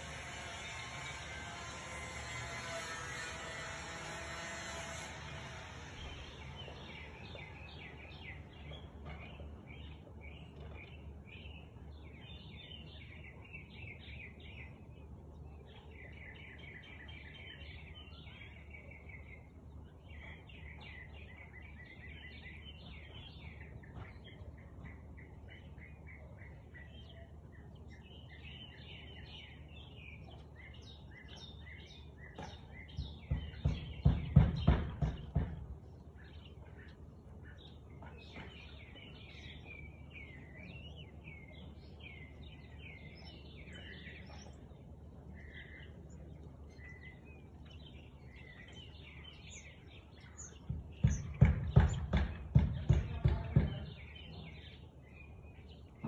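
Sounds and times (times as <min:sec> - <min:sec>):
songbird singing trills: 0:06.0 - 0:56.0.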